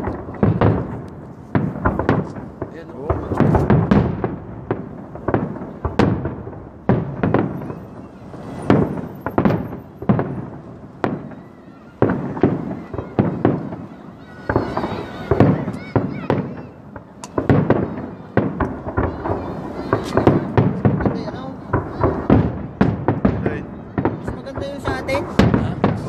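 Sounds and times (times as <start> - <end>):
firework shells bursting: 0.0 - 26.0.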